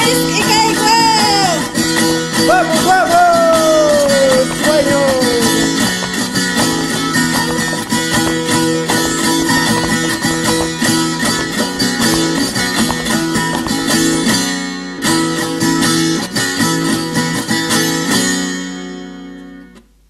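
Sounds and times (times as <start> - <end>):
carnival song with strummed guitars: 0.0 - 19.8.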